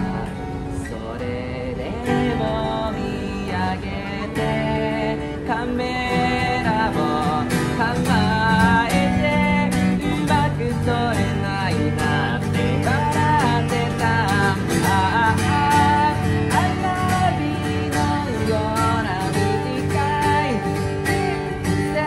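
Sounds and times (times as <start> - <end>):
acoustic guitar strumming: 0.0 - 22.0
man singing: 0.0 - 22.0.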